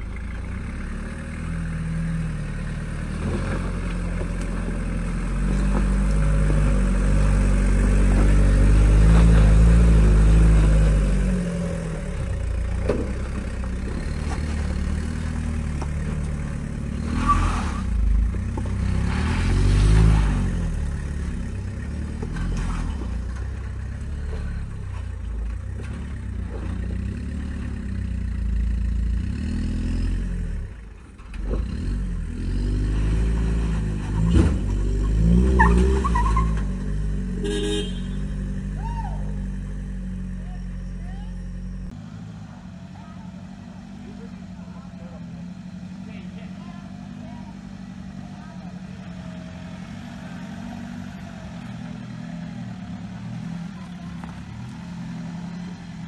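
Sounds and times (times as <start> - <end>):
truck engine revving under load: 0.0 - 56.0.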